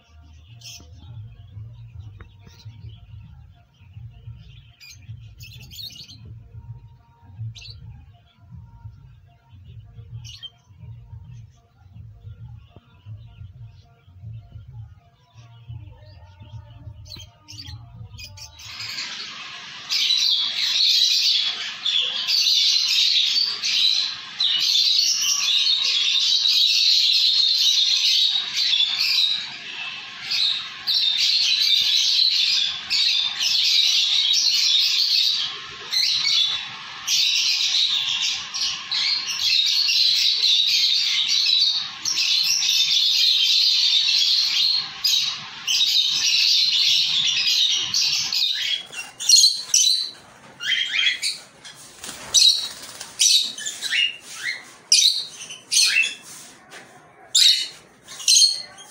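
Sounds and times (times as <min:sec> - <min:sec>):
lovebirds chirping: 0:00.0 - 0:56.6.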